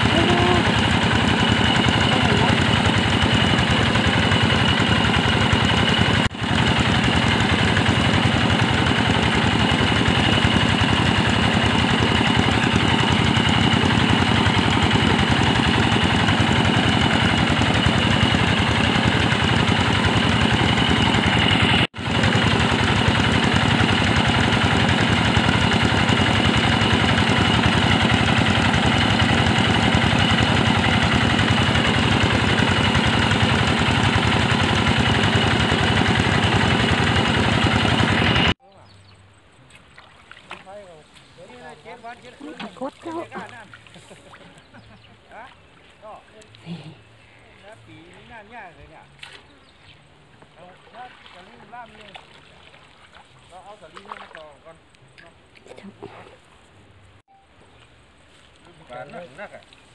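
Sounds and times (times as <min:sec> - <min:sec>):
engine-driven water pump running: 0:00.0 - 0:38.6, 0:39.6 - 0:57.2.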